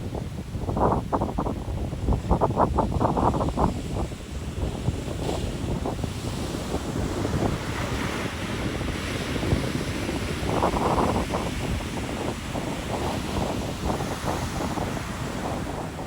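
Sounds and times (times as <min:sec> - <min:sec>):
wind buffeting microphone: 0:00.0 - 0:16.0
ocean surf washing ashore: 0:00.2 - 0:16.0.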